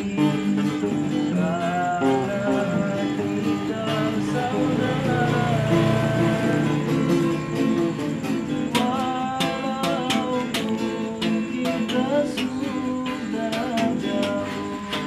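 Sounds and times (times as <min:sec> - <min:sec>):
man singing: 0:00.0 - 0:07.4, 0:08.4 - 0:15.0
acoustic guitars strumming: 0:00.0 - 0:15.0.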